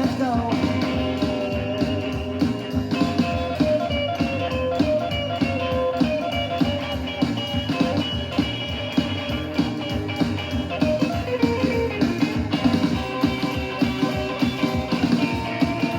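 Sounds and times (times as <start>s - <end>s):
drum beat: 0.0s - 15.9s
electric guitar: 0.0s - 15.9s.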